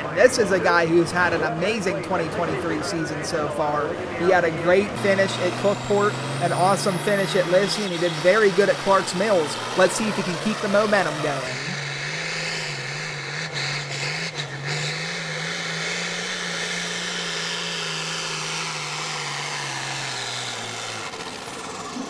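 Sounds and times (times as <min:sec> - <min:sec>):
tractor diesel engine roaring: 0:00.0 - 0:22.0.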